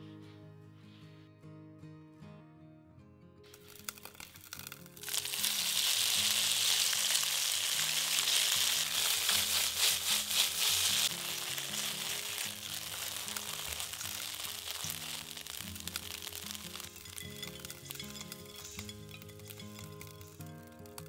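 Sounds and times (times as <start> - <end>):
food sizzling in hot oil: 3.5 - 21.0.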